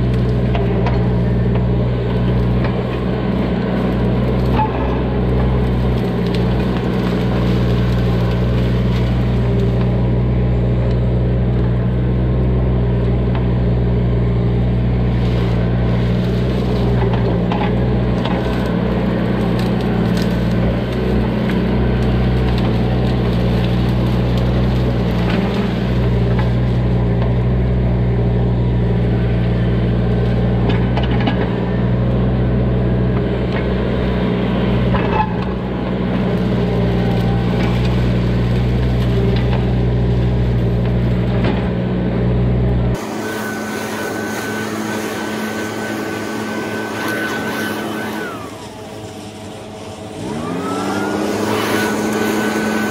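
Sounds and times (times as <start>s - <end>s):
branches cracking and snapping: 0.0s - 52.9s
excavator diesel engine running: 0.0s - 52.9s.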